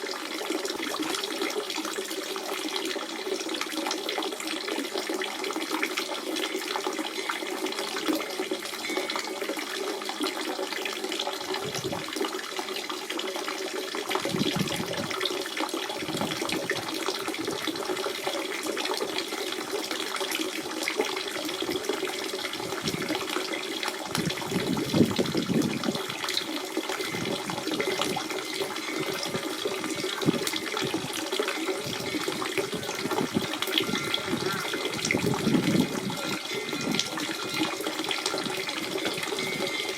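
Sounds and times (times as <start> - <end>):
spring water running and splashing: 0.0 - 39.9.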